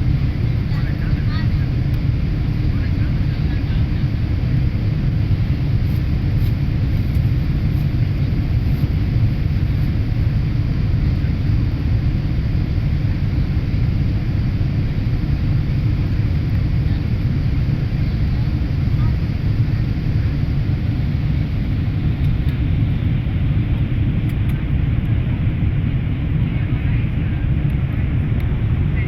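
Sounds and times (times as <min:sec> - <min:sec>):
airliner engines droning: 0:00.0 - 0:29.0.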